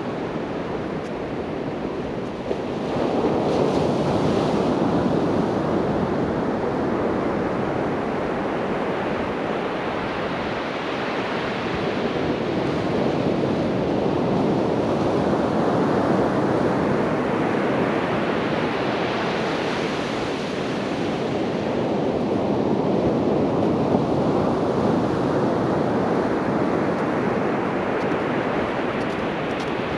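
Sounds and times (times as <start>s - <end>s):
sea surf washing onto beach: 0.0s - 29.9s
wind on microphone: 0.0s - 29.9s.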